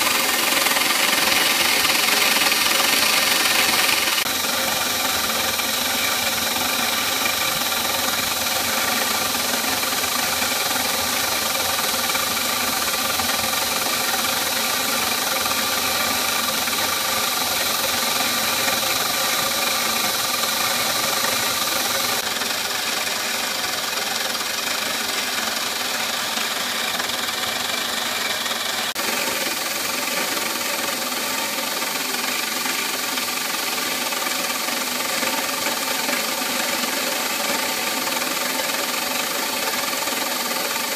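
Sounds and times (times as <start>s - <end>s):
milling machine cutting plastic: 0.0s - 40.9s.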